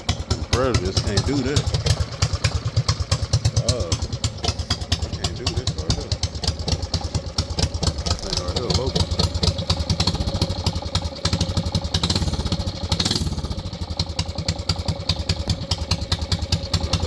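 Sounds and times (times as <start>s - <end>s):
single-cylinder engine idling: 0.0s - 17.0s.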